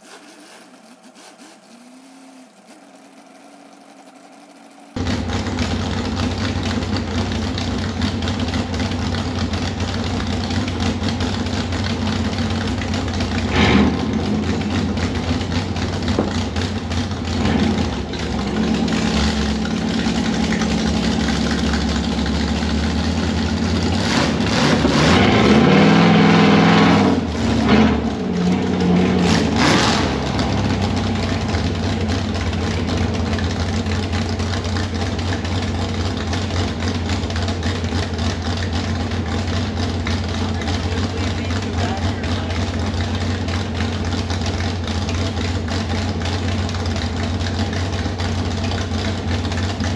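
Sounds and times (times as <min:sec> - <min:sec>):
truck engine idling and revving: 0:00.0 - 0:49.9.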